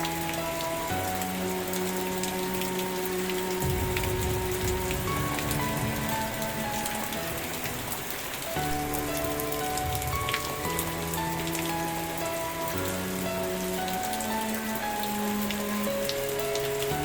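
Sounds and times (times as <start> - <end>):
soft background music: 0.0 - 17.0
steady rain falling: 0.0 - 17.0.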